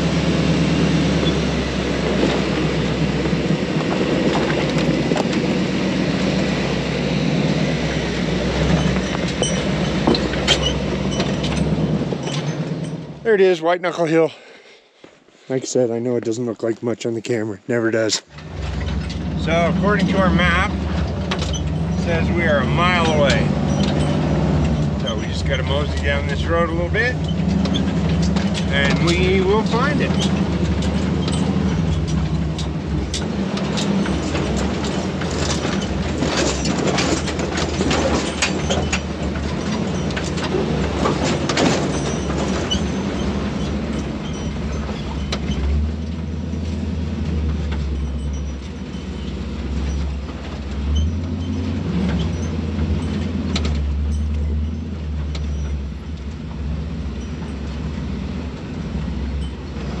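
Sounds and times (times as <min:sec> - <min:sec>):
knocking and rattling of truck body: 0:00.0 - 0:13.2, 0:18.4 - 1:00.0
truck engine drone: 0:00.0 - 0:14.8, 0:17.5 - 1:00.0.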